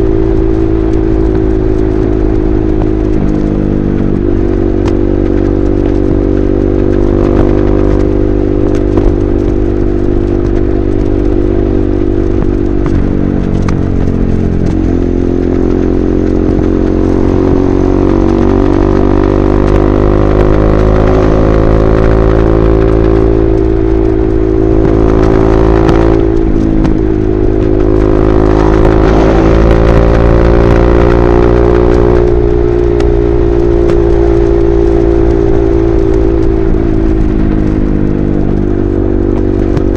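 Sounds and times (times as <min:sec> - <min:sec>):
motorcycle engine at high speed: 0:00.0 - 0:39.9.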